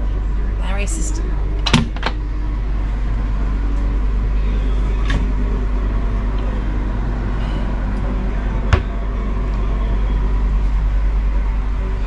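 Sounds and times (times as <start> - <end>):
low rumble with hiss: 0.0 - 12.0.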